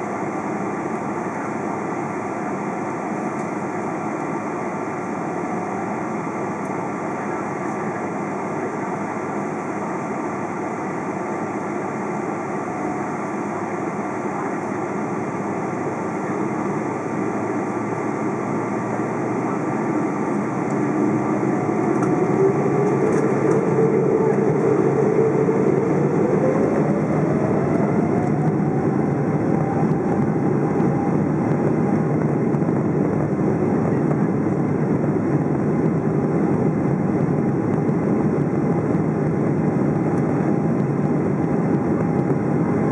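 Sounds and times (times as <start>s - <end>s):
jet engine cabin rumble: 0.0s - 42.9s
jet engine whine rising: 0.0s - 42.9s.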